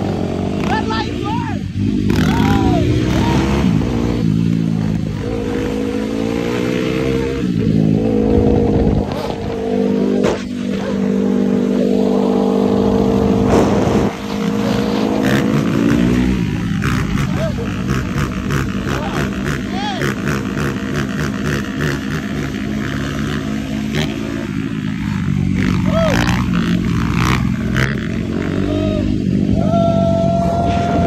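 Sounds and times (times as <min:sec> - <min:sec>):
quad engine running hard: 0:00.0 - 0:31.0.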